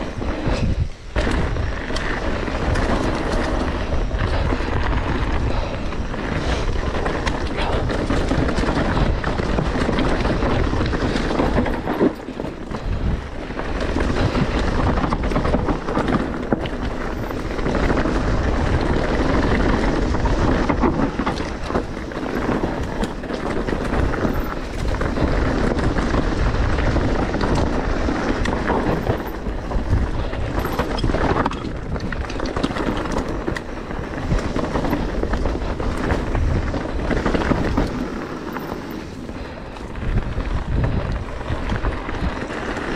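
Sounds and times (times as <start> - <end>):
bike clicks and rattles: 0.0 - 42.9
tyres rolling over rocky ground: 0.0 - 42.9
wind buffeting microphone: 0.0 - 42.9.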